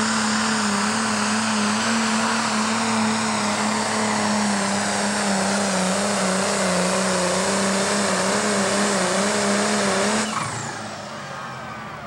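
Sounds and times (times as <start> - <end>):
diesel engine at full power: 0.0 - 12.0
high engine whine: 0.0 - 12.0.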